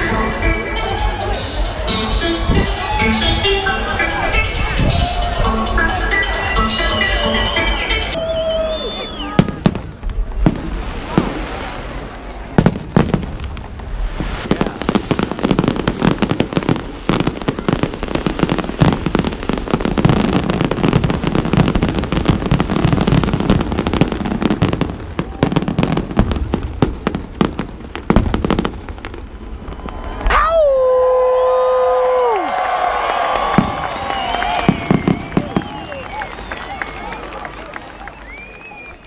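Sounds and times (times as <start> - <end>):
fireworks bangs and crackles: 0.0 - 31.0, 33.1 - 39.0.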